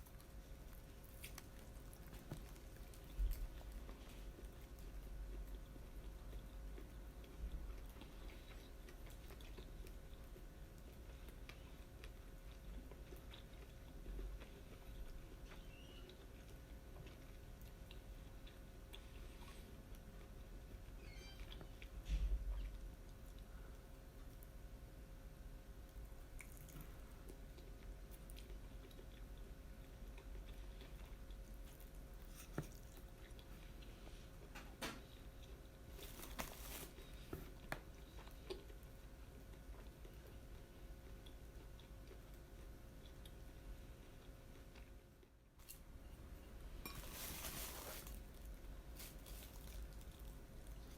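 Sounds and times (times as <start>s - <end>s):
close-up chewing: 0.0s - 20.6s, 26.0s - 45.8s, 47.7s - 50.9s
low steady hum: 0.0s - 50.9s.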